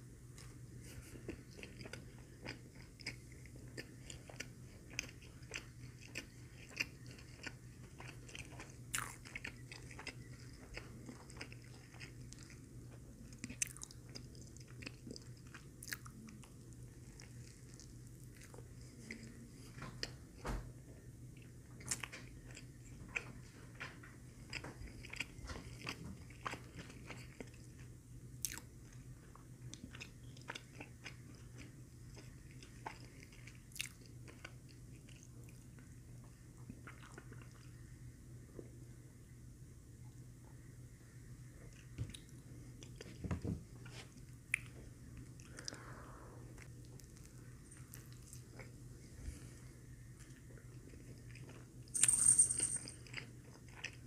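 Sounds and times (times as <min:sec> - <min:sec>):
faint low hum: 0:00.0 - 0:54.0
person chewing food: 0:00.3 - 0:20.4, 0:21.3 - 0:37.8, 0:41.6 - 0:45.9, 0:46.6 - 0:51.8, 0:52.9 - 0:54.0.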